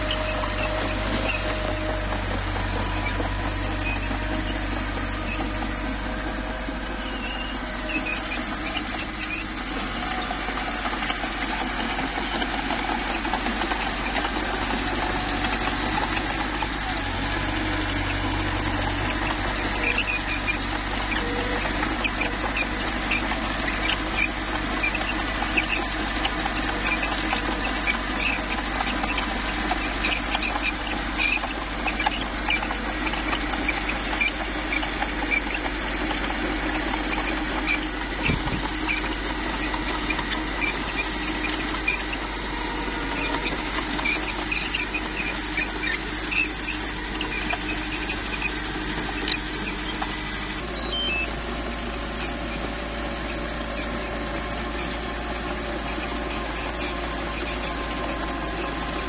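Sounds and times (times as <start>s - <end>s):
bulldozer diesel engine running: 0.0s - 59.0s
steel tracks squeaking and clinking: 0.0s - 59.0s.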